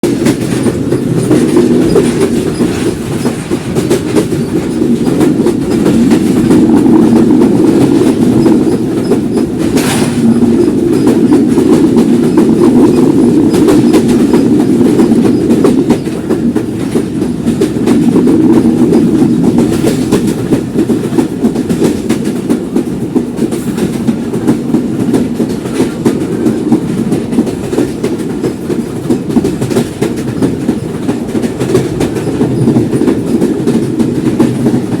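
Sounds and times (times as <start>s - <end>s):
rail joint clatter: 0.0s - 35.0s
train wheels rumbling on track: 0.0s - 35.0s.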